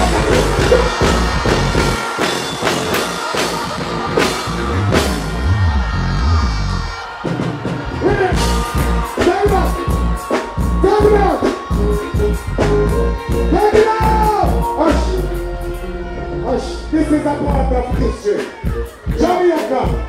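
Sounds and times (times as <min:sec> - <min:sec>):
reggae band with heavy bass: 0:00.0 - 0:20.0.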